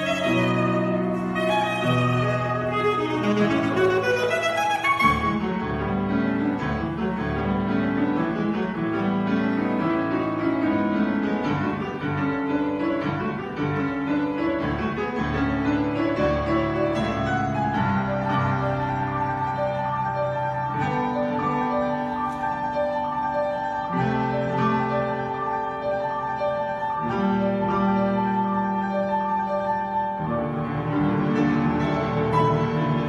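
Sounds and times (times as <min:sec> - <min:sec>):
classical piano playing: 0:00.0 - 0:33.0.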